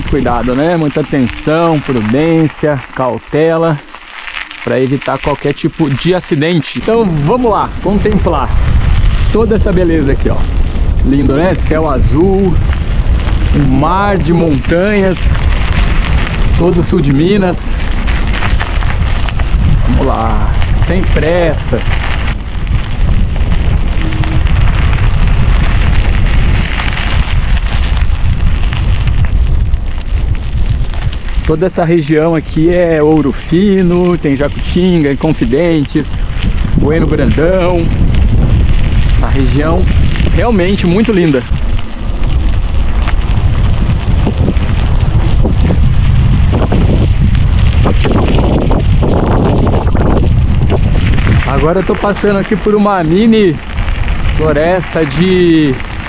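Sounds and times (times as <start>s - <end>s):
bike tyres rattling over ground: 0.0s - 56.0s
wind buffeting microphone: 0.0s - 56.0s.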